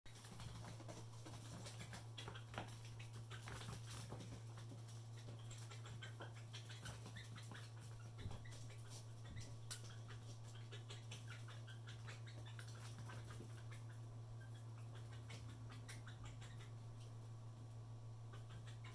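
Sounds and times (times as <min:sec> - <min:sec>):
small animals ticking and squeaking: 0:00.1 - 0:18.9
steady low hum: 0:00.1 - 0:18.9.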